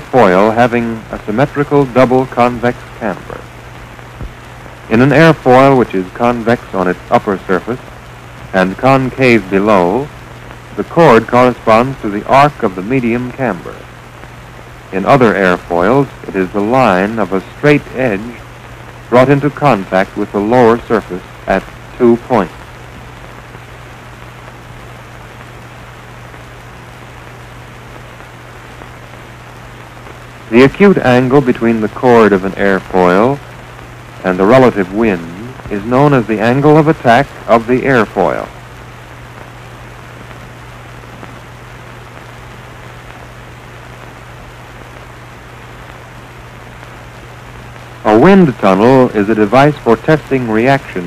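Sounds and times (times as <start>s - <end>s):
constant low hum: 0.0s - 51.0s
faint crackles: 0.0s - 51.0s
film soundtrack hiss: 0.0s - 51.0s.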